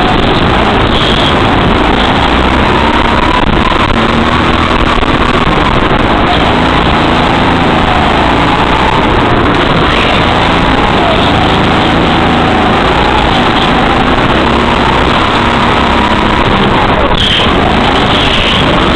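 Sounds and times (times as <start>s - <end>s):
go-kart engine running: 0.0s - 18.9s.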